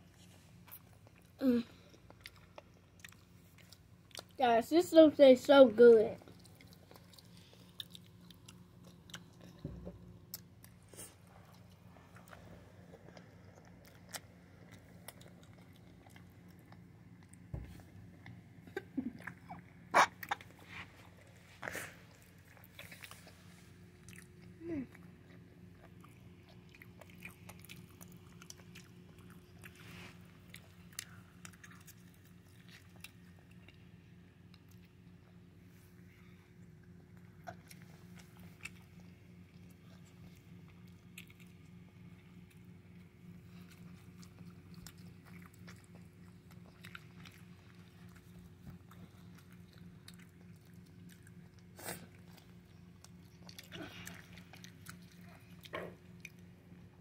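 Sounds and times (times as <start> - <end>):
person chewing food: 0.0 - 4.4, 6.2 - 57.0
steady low hum: 0.0 - 57.0.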